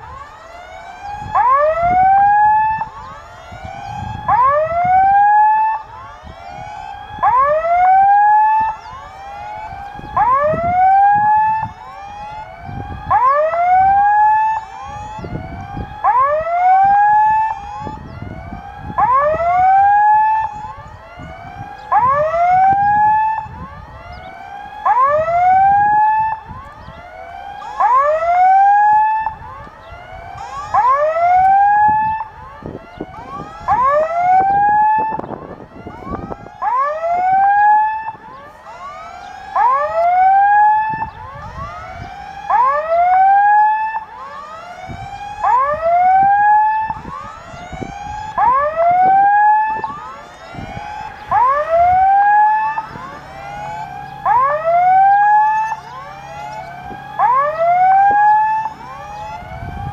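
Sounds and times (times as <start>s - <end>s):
level crossing warning signal: 0.0s - 59.9s.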